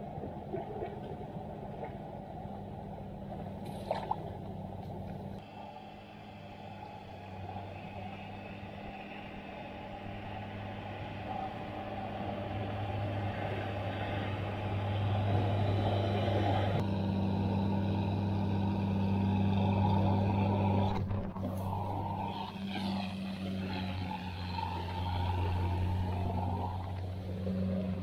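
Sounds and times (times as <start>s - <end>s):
boat motor droning: 0.0s - 28.0s.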